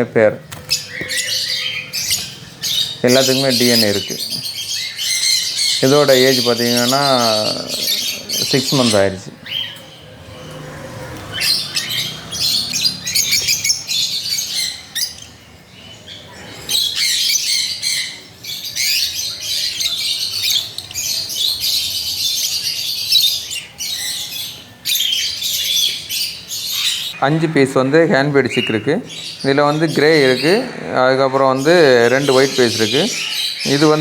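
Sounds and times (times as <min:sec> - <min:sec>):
parrots chattering and squawking: 0:00.4 - 0:34.0.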